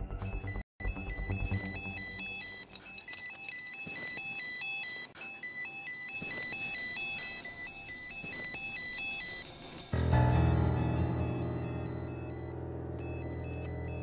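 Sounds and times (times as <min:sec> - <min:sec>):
electronic beeping music: 0:00.2 - 0:14.0.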